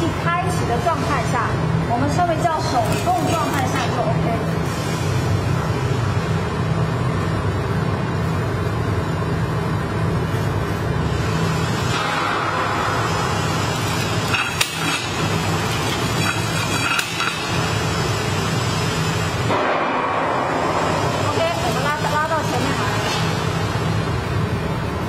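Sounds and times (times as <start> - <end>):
blower and conveyor hum: 0.0 - 25.0.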